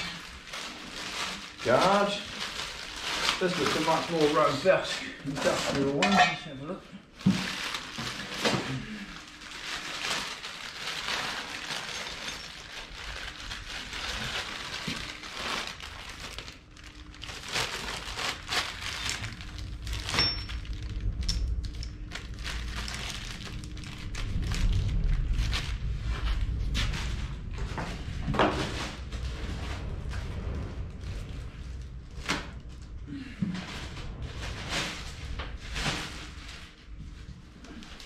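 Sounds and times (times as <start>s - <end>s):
packing material crinkling: 0.0s - 6.0s, 7.0s - 38.0s.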